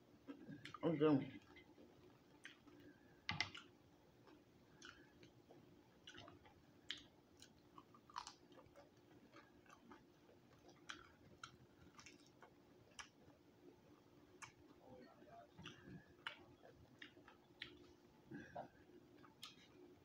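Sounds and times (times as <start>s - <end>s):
faint chewing with crunches: 0.0s - 20.0s.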